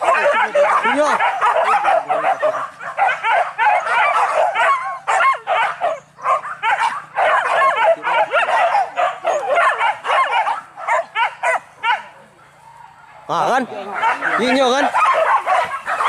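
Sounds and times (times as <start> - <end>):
dogs yelping and baying: 0.0 - 16.0.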